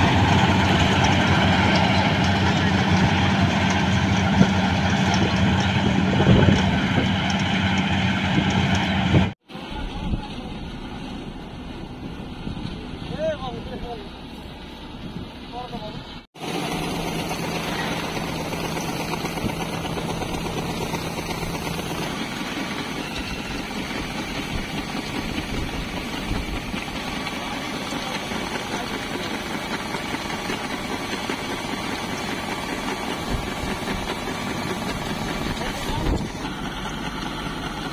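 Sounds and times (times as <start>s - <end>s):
combine harvester drone: 0.0s - 37.9s.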